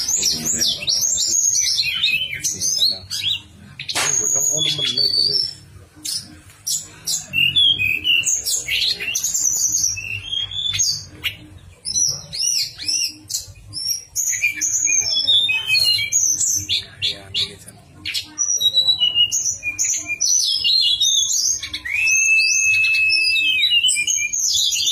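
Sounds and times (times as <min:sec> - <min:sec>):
bird singing whistles and chirps: 0:00.0 - 0:17.5, 0:18.1 - 0:24.9.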